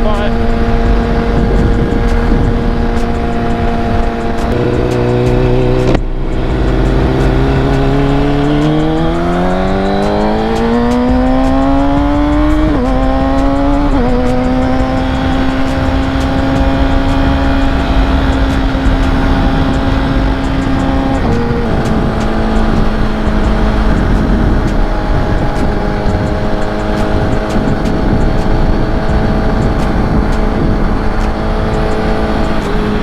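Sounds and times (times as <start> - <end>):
motorcycle engine accelerating: 0.0 - 33.0
wind rush: 0.0 - 33.0.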